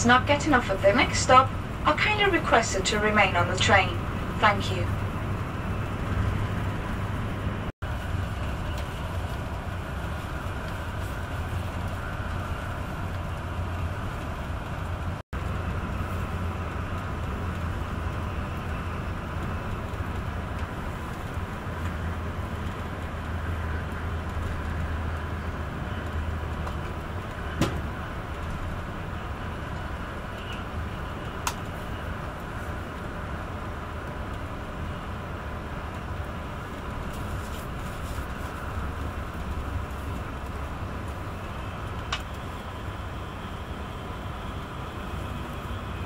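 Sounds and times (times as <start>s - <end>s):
train cabin rumble: 0.0s - 46.0s.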